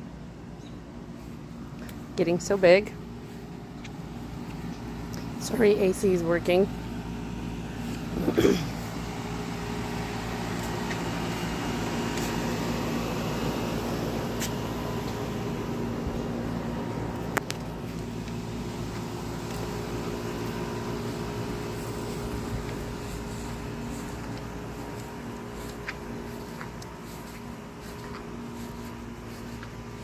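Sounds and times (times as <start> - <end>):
air conditioner humming: 0.0 - 30.0.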